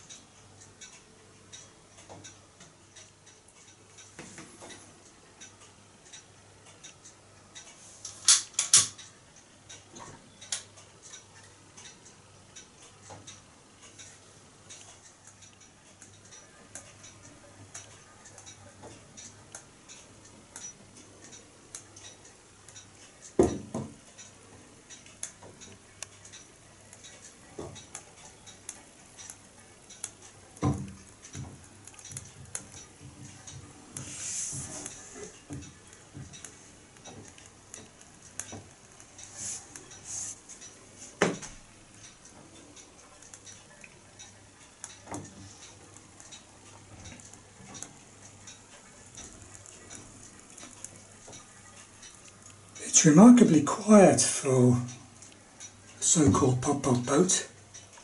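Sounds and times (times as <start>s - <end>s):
pop-pop boat ticking: 8.3s - 58.0s.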